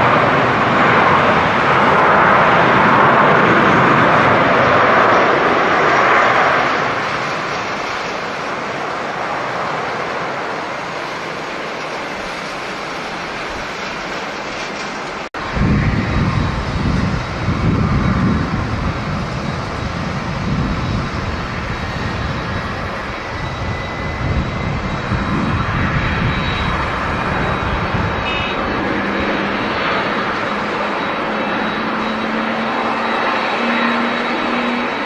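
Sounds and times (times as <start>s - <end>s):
jet engine noise: 0.0s - 35.0s
wind buffeting microphone: 0.0s - 35.0s.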